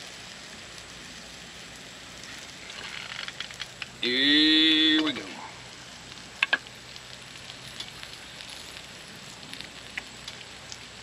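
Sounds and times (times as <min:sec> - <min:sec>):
frying hiss with crackles: 0:00.0 - 0:11.0.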